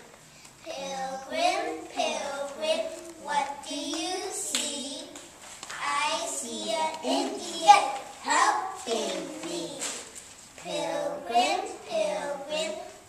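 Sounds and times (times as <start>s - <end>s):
young children singing in unison: 0.6s - 13.0s.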